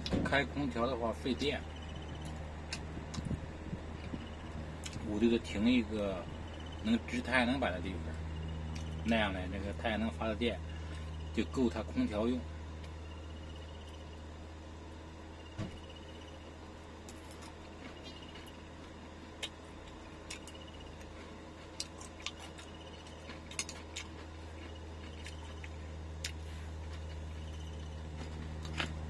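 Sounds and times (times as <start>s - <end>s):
steady low hum: 0.0s - 29.0s
high-pitched pulsing chirp: 0.4s - 16.8s, 17.7s - 19.2s, 20.4s - 21.2s, 21.9s - 23.5s, 24.5s - 29.0s.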